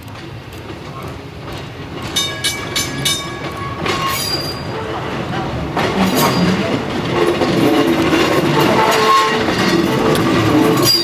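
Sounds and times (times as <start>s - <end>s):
streetcar rumbling on track: 0.0s - 11.0s.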